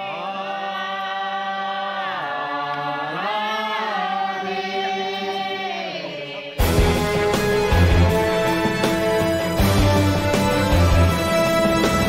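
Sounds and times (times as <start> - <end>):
voices chanting: 0.0 - 12.0.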